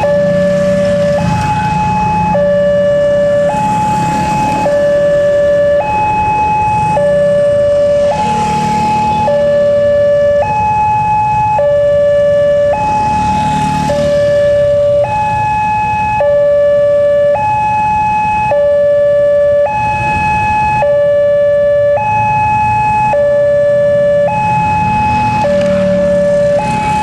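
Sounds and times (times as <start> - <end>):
level-crossing alarm two-tone warning: 0.0 - 27.0.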